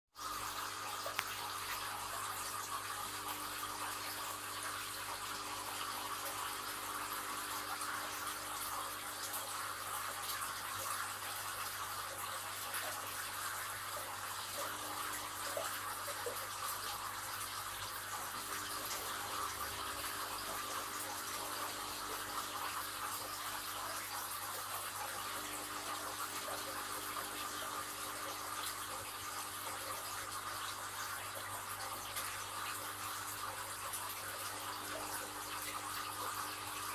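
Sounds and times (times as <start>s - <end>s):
aquarium water bubbling: 0.2s - 36.9s
pump humming: 0.2s - 36.9s.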